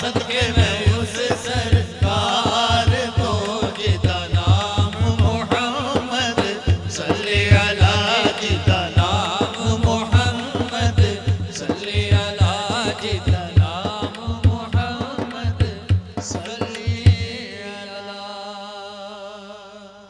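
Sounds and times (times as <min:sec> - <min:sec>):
drum beat: 0:00.0 - 0:17.4
men singing: 0:00.0 - 0:19.8.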